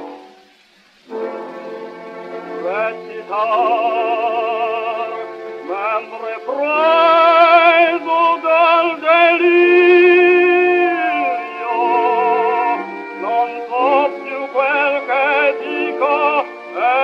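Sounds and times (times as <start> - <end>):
operatic tenor singing: 2.3 - 17.0.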